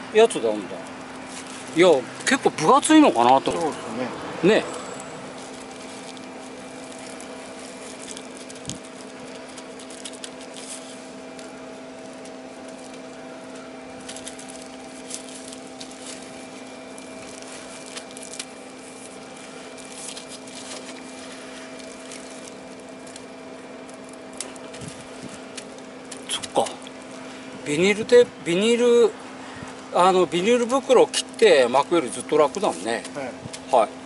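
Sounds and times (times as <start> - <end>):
steady hum: 0.0 - 34.0
plastic stretch film crinkling: 0.2 - 29.0, 29.7 - 33.8.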